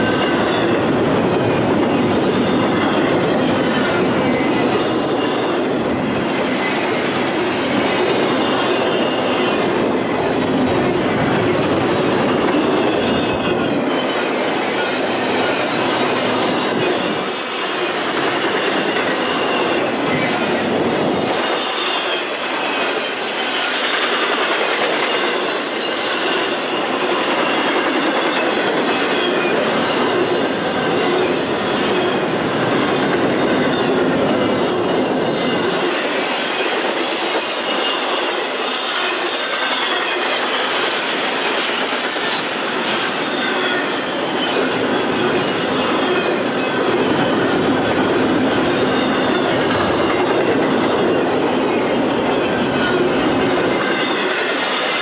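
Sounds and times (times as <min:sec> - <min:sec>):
high wheel squeal: 0:00.0 - 0:55.0
steel wheels clattering on rails: 0:00.0 - 0:55.0.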